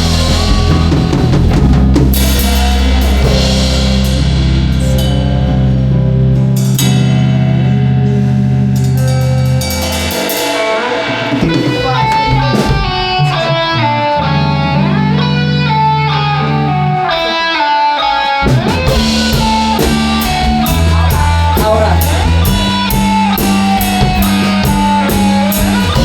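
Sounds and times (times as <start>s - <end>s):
drum kit: 0.0s - 17.5s, 18.1s - 26.0s
bass guitar: 0.0s - 26.0s
lead guitar with bending notes: 0.0s - 26.0s.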